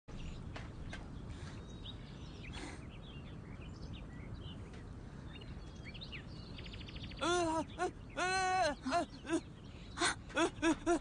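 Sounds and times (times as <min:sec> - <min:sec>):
birds chirping: 0:00.1 - 0:11.0.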